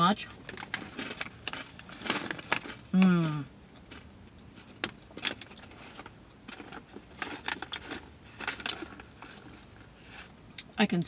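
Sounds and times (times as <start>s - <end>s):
plastic snack pouch crinkling: 0.3s - 10.2s.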